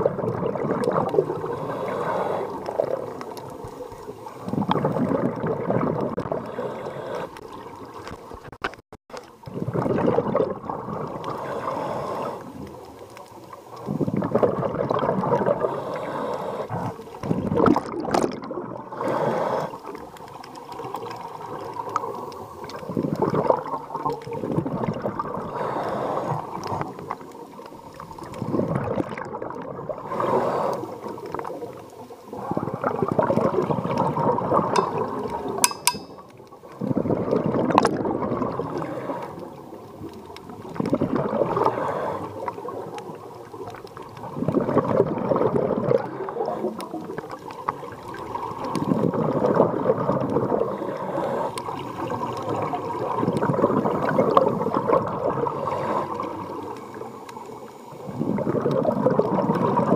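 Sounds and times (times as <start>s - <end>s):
underwater exhaled bubbles: 0.0s - 59.9s.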